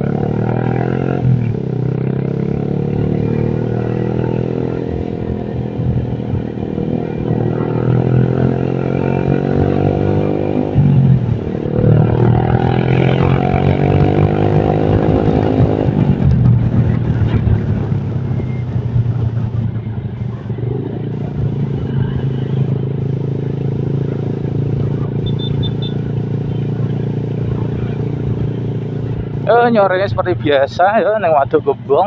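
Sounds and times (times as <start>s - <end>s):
motorcycle engine running: 0.0s - 30.4s.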